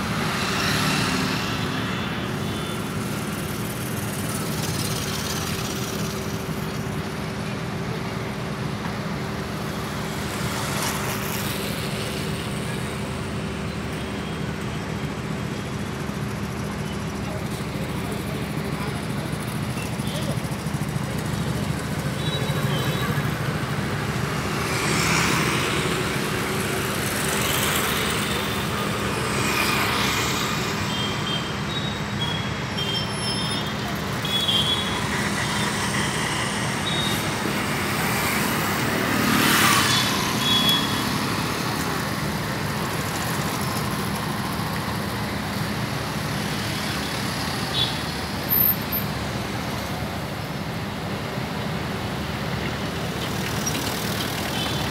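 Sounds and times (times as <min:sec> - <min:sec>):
street traffic hum: 0:00.0 - 0:54.9
vehicles passing close by: 0:00.0 - 0:54.9.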